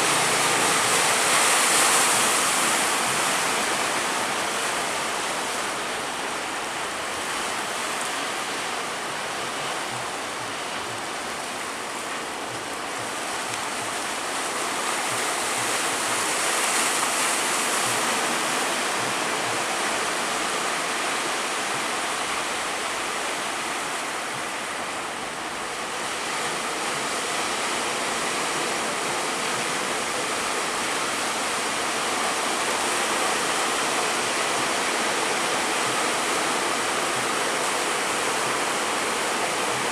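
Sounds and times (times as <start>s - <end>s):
rough sea waves rushing: 0.0s - 39.9s
wind: 0.0s - 39.9s.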